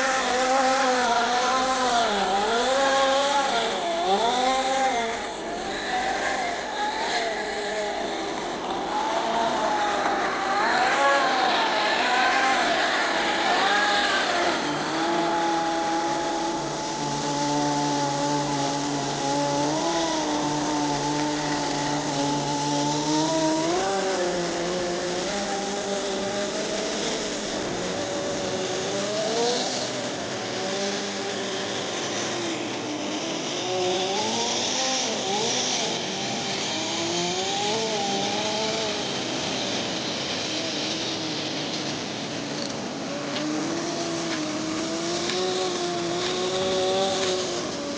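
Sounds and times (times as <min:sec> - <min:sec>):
small nitro engine revving: 0:00.0 - 0:47.9.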